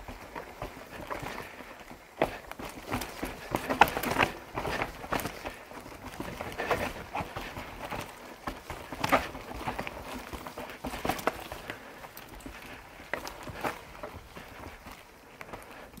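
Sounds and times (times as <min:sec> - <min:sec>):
crunches and knocks on rough trail: 0:00.0 - 0:16.0.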